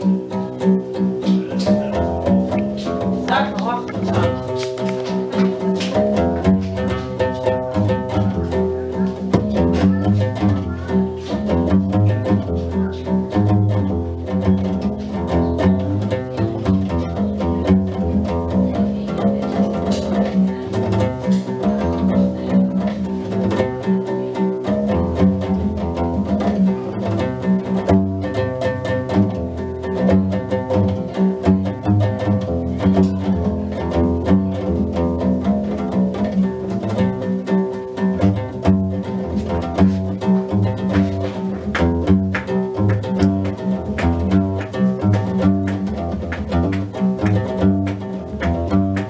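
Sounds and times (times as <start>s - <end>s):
plucked bass lute: 0.0s - 49.0s.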